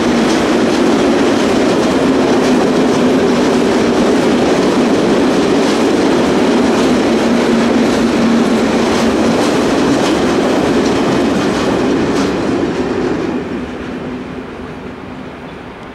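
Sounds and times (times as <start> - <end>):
freight wagons clattering over rail joints: 0.0 - 14.1.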